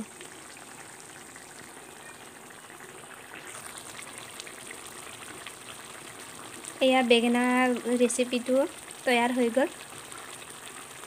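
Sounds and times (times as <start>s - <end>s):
curry bubbling and crackling: 0.0s - 11.0s.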